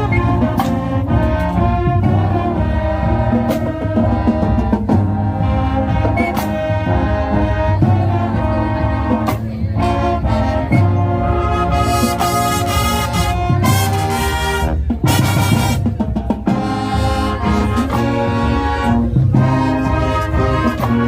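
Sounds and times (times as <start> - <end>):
brass chords: 0.0 - 21.0.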